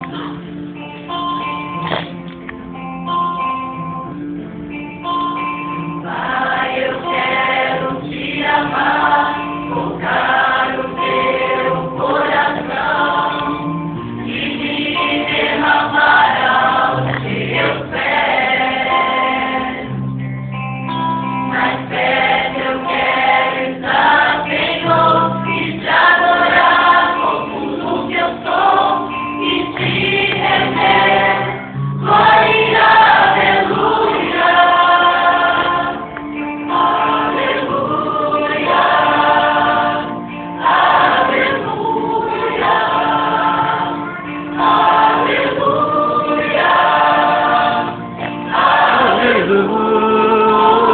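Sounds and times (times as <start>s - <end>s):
choir singing gospel: 5.8s - 20.2s, 21.3s - 50.9s.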